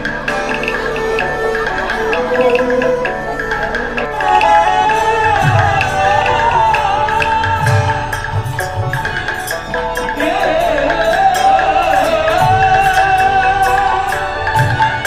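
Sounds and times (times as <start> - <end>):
low drum beats: 0.0 - 15.0
wavering melody: 0.0 - 15.0.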